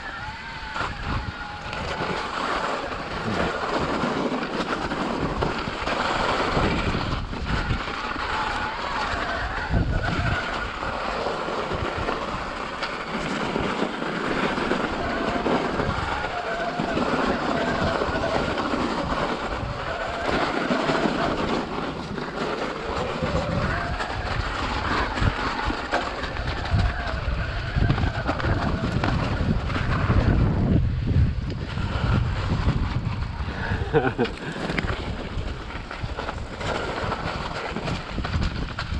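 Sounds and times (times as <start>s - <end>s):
mountain bike rolling on trail: 0.0s - 38.9s
wind rushing over microphone: 0.0s - 38.9s.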